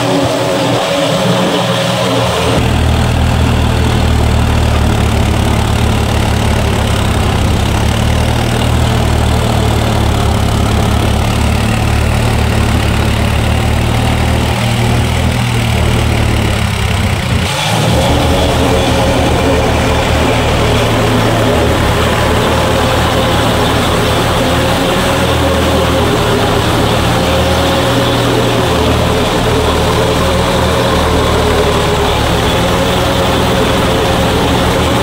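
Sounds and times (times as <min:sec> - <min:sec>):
tractor diesel engine rumbling: 0:00.0 - 0:35.0.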